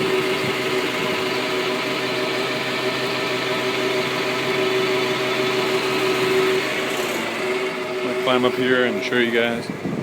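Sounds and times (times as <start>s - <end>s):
fuel pump and truck engine running: 0.0s - 10.0s.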